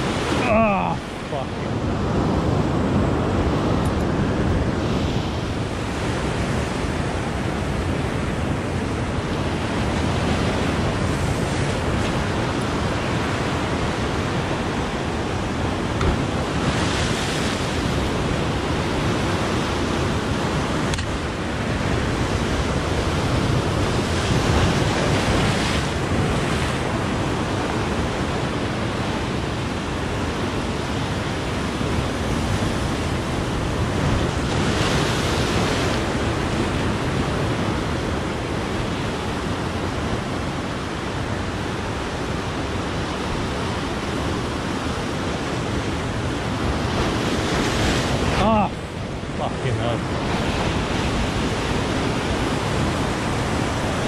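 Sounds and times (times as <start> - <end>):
sea surf breaking over rocks: 0.0 - 54.0.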